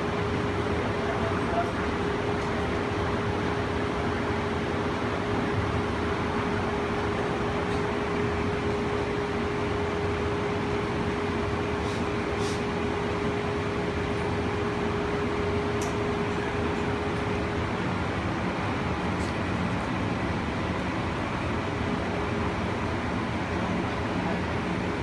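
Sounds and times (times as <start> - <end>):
constant hum: 0.0 - 25.0
people mover cabin running noise: 0.0 - 25.0.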